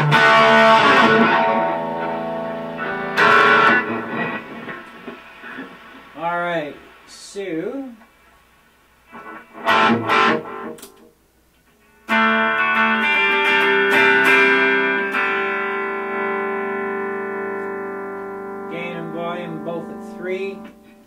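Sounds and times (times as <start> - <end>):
electric guitar strums and notes: 0.0 - 7.0, 9.1 - 11.2, 11.8 - 21.0.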